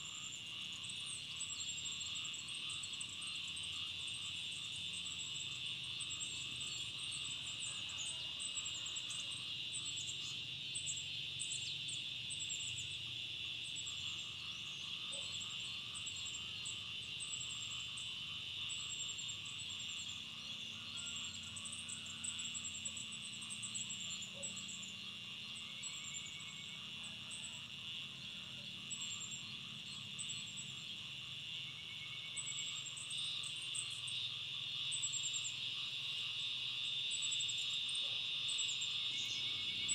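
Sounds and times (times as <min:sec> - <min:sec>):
insects trilling drone: 0:00.0 - 0:39.9.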